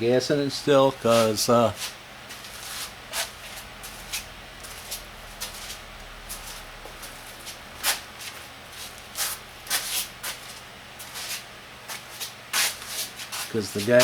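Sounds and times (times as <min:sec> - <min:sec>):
handling scuffs at workbench: 0:01.0 - 0:05.8, 0:06.4 - 0:14.0.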